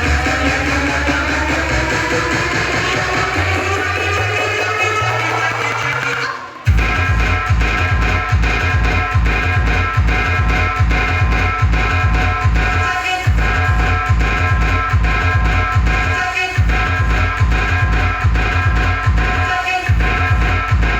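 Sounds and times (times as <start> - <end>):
loud music with pulsing bass beat: 0.0 - 20.9.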